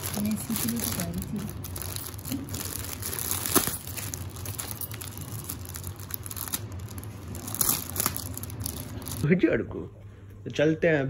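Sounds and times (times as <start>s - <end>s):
plastic packets crinkling: 0.0s - 9.3s.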